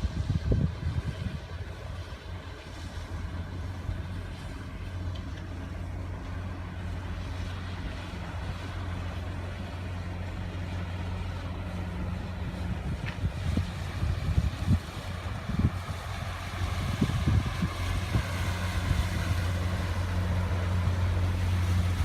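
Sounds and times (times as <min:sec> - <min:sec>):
ship diesel engines droning: 0:01.2 - 0:22.0.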